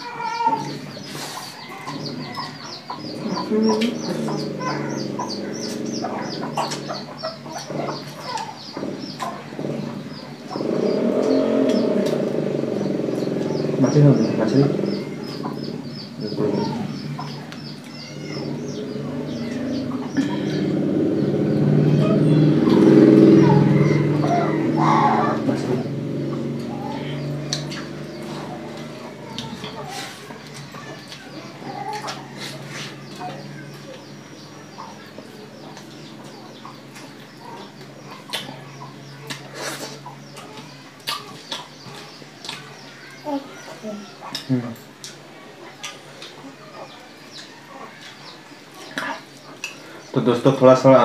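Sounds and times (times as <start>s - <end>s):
birds chirping: 0.0s - 51.0s
chicken clucking: 0.0s - 51.0s
chicks peeping: 0.0s - 51.0s
vehicle engine running: 1.9s - 43.2s.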